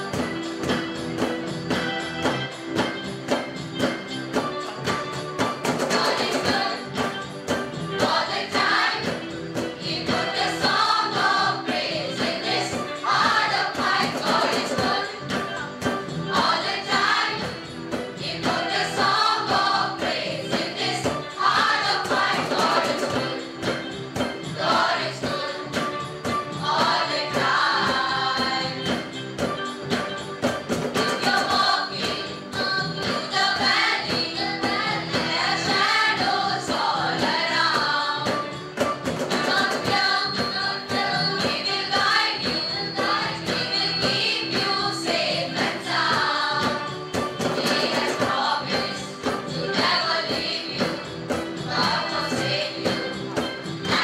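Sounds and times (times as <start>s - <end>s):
hand-drum percussion: 0.0s - 54.0s
keyboard: 0.0s - 54.0s
choir singing gospel song: 2.8s - 54.0s.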